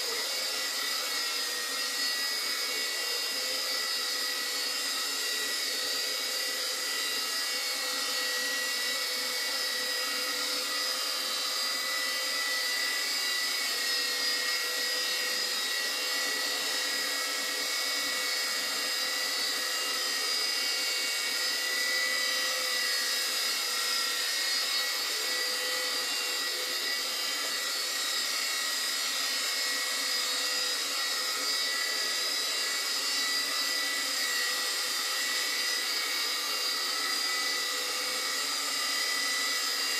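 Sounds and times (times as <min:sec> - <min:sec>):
toy helicopter rotors whining: 0:00.0 - 0:39.9.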